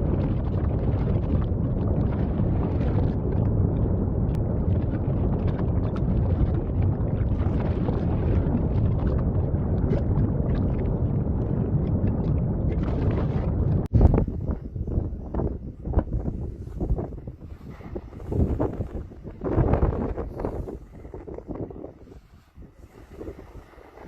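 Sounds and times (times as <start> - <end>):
volcanic eruption roaring: 0.0 - 24.0
wind buffeting microphone: 0.0 - 24.0.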